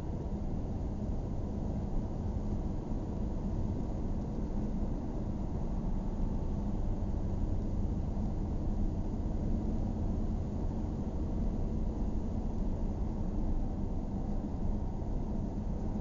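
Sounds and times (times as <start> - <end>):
road noise rumble in car: 0.3 - 16.0.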